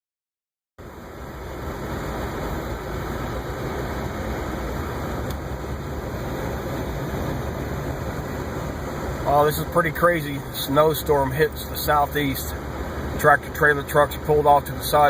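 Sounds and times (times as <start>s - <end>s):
car engine hum inside cabin: 0.8s - 15.0s.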